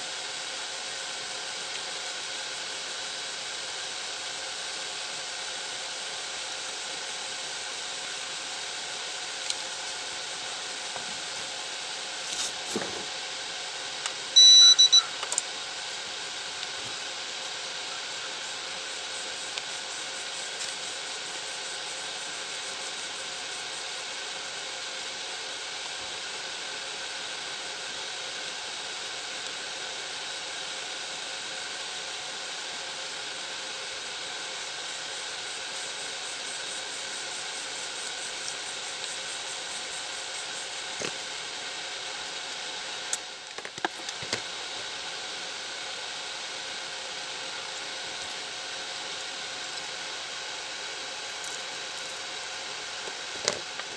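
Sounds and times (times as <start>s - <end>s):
steady background hiss: 0.0s - 53.9s.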